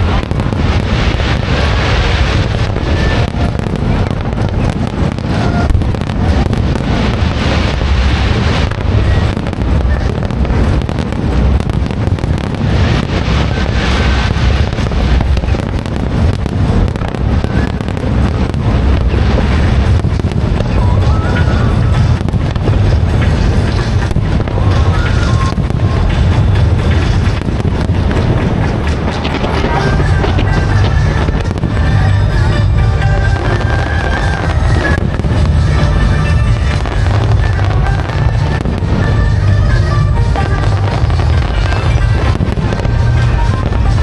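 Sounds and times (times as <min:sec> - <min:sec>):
fireworks bangs and crackles: 0:00.0 - 0:44.0
heavy low rumble: 0:00.0 - 0:44.0.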